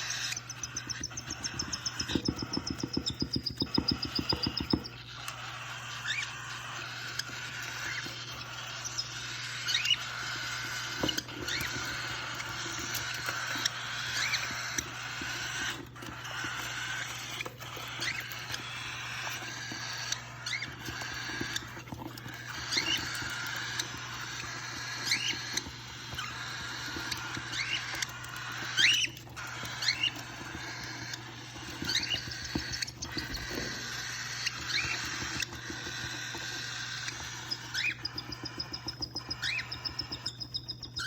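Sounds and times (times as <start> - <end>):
chicks chirping: 0.0 - 41.0.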